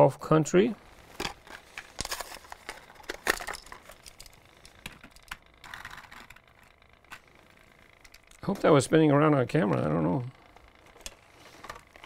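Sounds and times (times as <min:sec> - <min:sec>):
toy cars clicking: 0:00.9 - 0:12.0.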